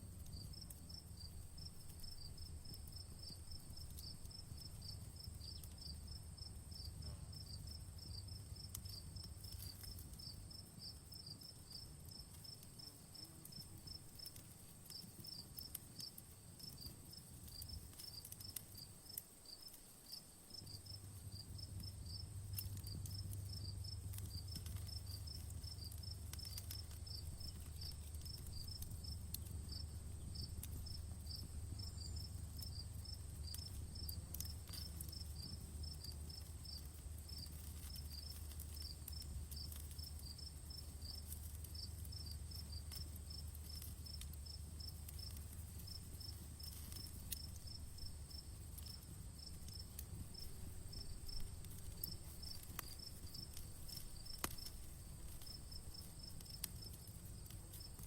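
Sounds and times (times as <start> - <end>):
campfire crackling: 0.0 - 58.0
crickets chirping: 0.0 - 58.0
high insect hiss: 0.0 - 58.0.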